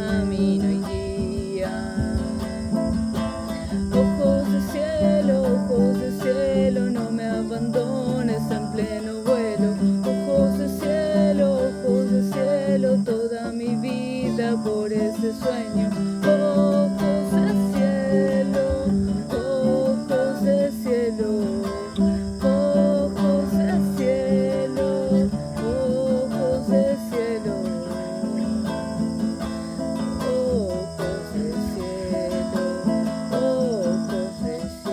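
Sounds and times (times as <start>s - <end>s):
acoustic guitar chords: 0.0s - 34.9s
insects chirping: 0.0s - 34.9s
woman singing: 0.0s - 34.9s.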